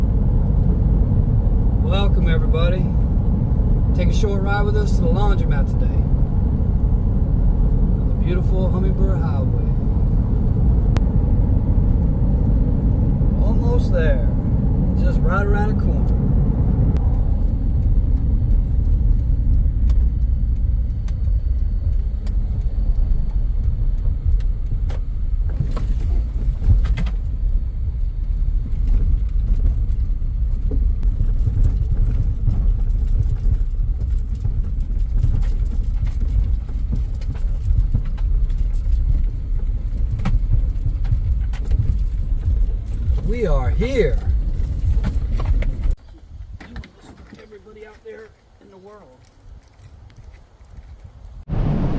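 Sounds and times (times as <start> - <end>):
car road and engine rumble: 0.0 - 51.9.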